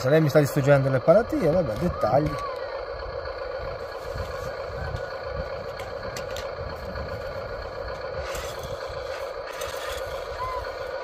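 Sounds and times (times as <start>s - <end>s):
drivetrain rattle: 0.0s - 11.0s
electric gear motors whining: 0.0s - 11.0s.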